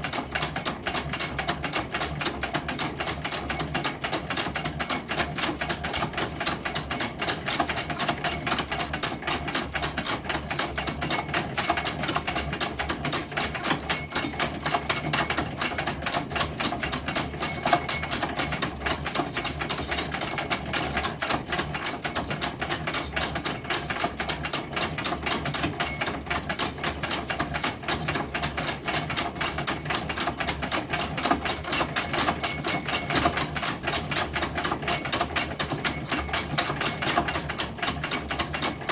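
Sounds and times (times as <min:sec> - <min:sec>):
hand-cranked drill press clicking: 0:00.0 - 0:38.9.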